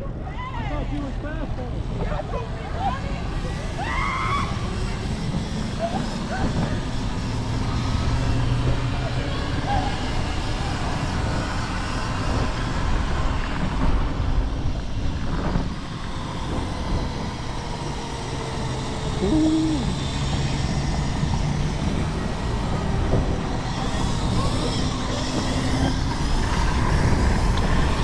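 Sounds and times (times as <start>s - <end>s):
road noise: 0.0s - 28.0s
wind rushing over microphone: 0.0s - 28.0s.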